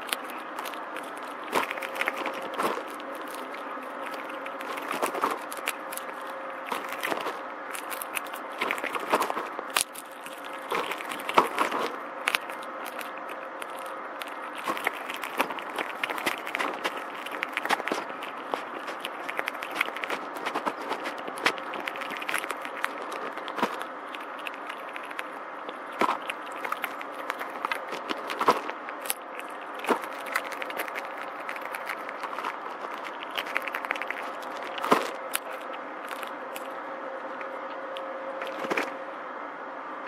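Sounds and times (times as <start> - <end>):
squirrel cracking seed shells: 0.0 - 38.9.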